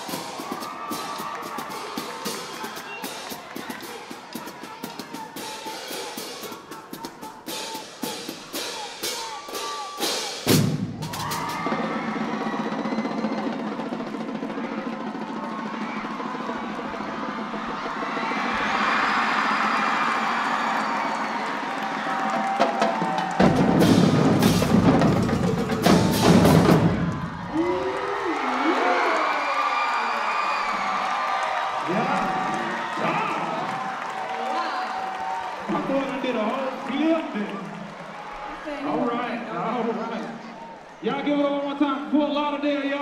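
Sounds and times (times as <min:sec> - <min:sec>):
marching drumline cadence: 0:00.0 - 0:38.8
crowd noise and yells: 0:00.0 - 0:43.0.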